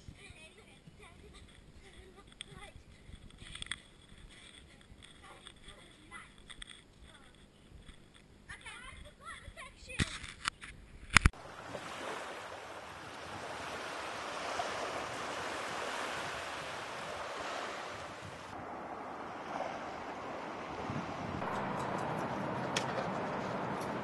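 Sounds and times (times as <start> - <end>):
wind and sea noise: 0.0 - 24.0.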